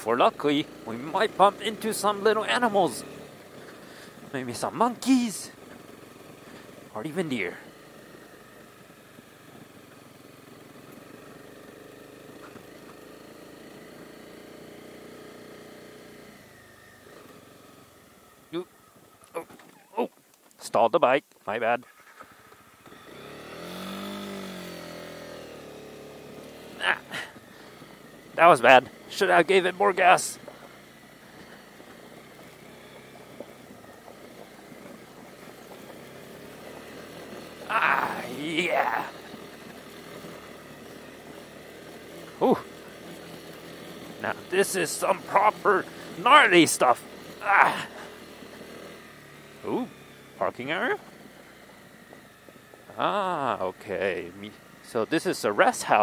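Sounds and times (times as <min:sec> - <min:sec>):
tyres rolling over gravel: 0:00.0 - 0:20.7, 0:21.9 - 0:56.0
motorcycle engine at low revs: 0:00.0 - 0:56.0.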